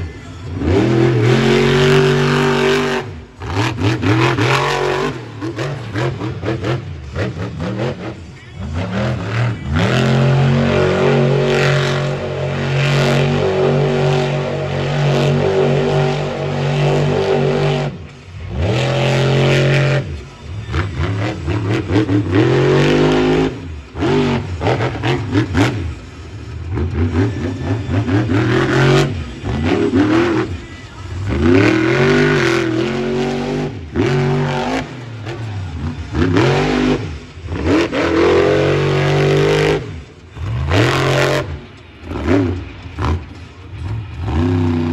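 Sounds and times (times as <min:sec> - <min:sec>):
truck engine revving hard: 0:00.0 - 0:44.9.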